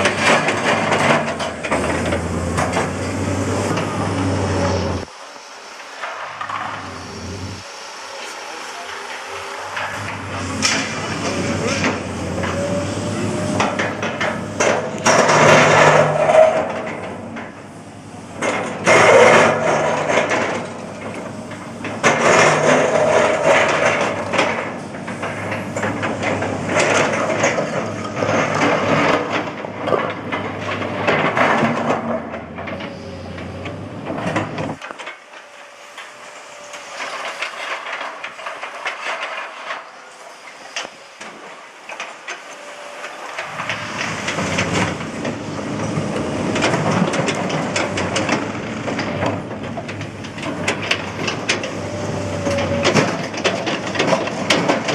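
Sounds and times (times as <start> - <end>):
concrete scraping and cracking: 0.0 - 5.1, 6.0 - 17.5, 18.4 - 54.9
excavator diesel engine: 0.0 - 54.9.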